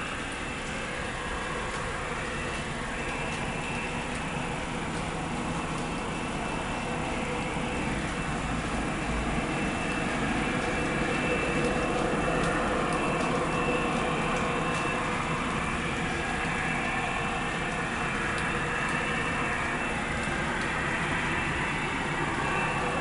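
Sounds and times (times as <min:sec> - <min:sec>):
steady continuous roar: 0:00.0 - 0:23.0
thin high whine: 0:00.0 - 0:23.0.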